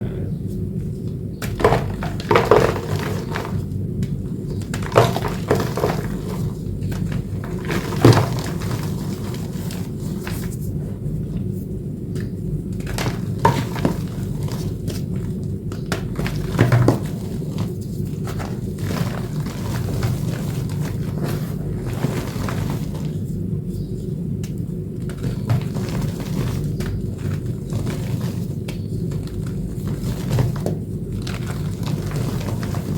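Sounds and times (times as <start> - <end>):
low background rumble: 0.0 - 32.9.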